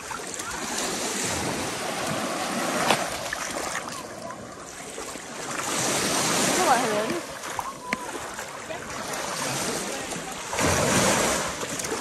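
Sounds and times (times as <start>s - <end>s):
small waves washing on shore: 0.0s - 12.0s.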